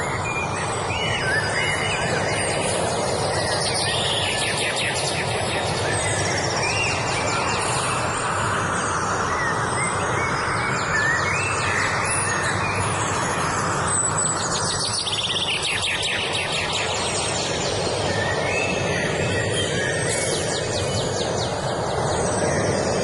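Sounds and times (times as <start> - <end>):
steady rushing noise: 0.0 - 23.0
wild birds singing: 0.0 - 23.0.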